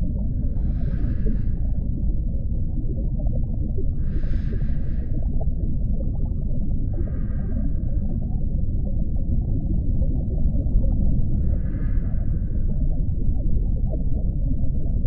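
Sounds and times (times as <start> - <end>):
deep underwater rumble: 0.0 - 15.0.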